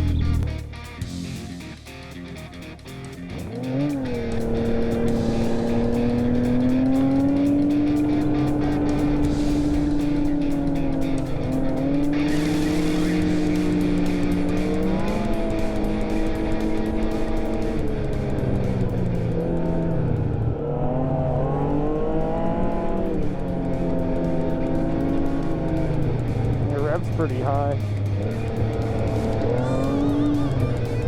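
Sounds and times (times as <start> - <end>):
snowmobile engine revving: 0.0 - 31.0.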